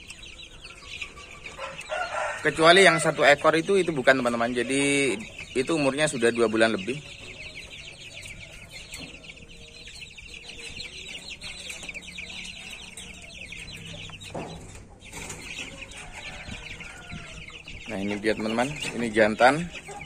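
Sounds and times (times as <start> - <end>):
chicks cheeping: 0.0 - 20.0.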